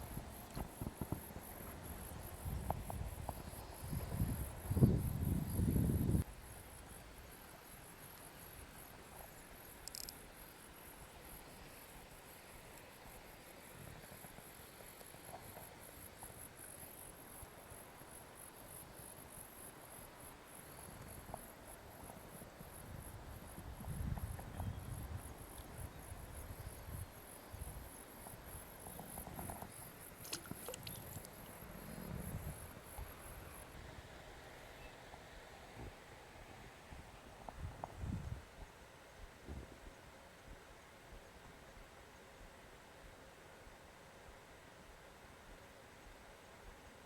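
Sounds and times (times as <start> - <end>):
insects chirring: 0.0 - 38.6.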